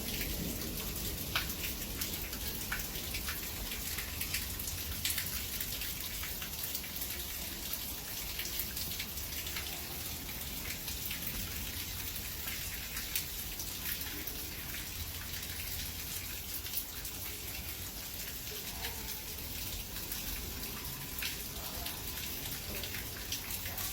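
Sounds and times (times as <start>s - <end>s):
raindrops ticking on hard surface: 0.0s - 23.9s
steady rain: 0.0s - 23.9s.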